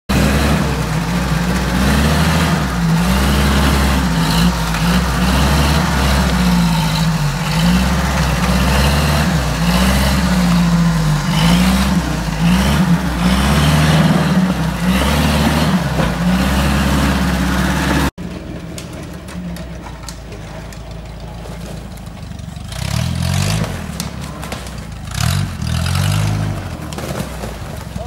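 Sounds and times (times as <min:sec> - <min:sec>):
engine revving hard under load: 0:00.1 - 0:18.4, 0:21.7 - 0:28.0
off-road vehicle engine revving: 0:00.1 - 0:28.0.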